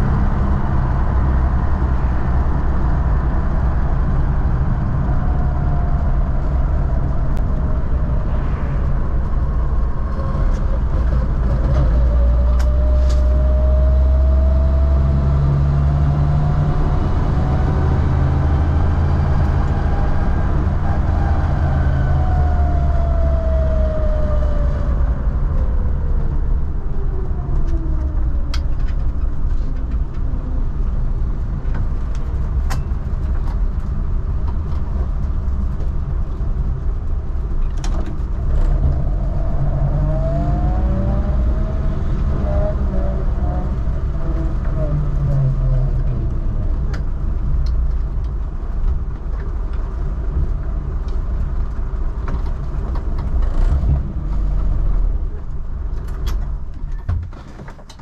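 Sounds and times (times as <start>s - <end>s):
drivetrain whine: 0.0s - 57.0s.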